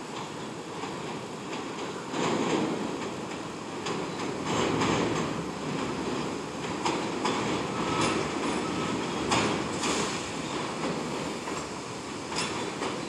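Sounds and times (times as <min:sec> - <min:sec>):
train wheels rumbling on rail: 0:00.0 - 0:13.0
wheels clacking over rail joints: 0:00.1 - 0:13.0.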